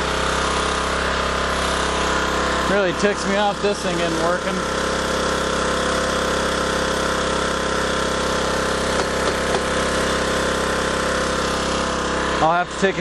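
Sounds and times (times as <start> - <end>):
portable generator engine humming: 0.0 - 13.0.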